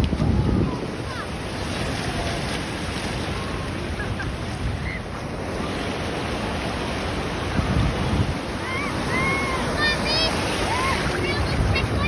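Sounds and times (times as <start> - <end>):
surf washing over sand: 0.0 - 12.0
wind on microphone: 0.0 - 12.0.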